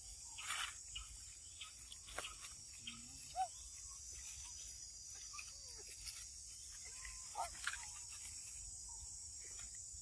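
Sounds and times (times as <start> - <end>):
high-pitched insect chorus: 0.0 - 10.0
rising-and-falling insect calls: 0.0 - 10.0.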